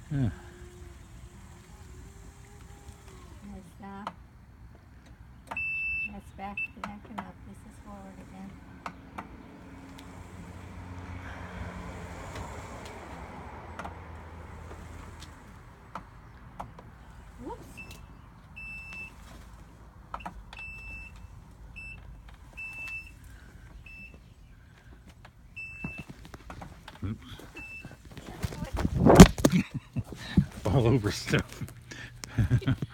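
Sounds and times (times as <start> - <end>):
electric drive humming: 0.0 - 32.9.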